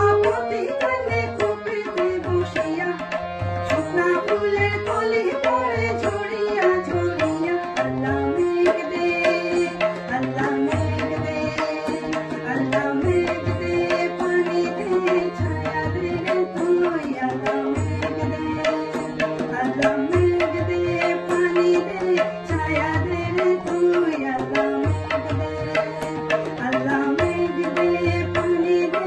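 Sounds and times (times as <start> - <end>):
tabla drumming: 0.0 - 29.0
woman singing folk song: 0.0 - 29.0.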